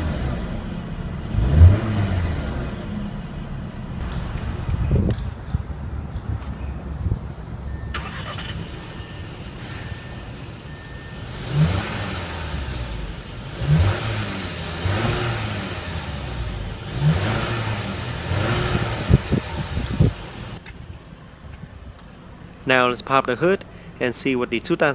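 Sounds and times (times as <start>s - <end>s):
car engine idling and revving: 0.0s - 24.8s.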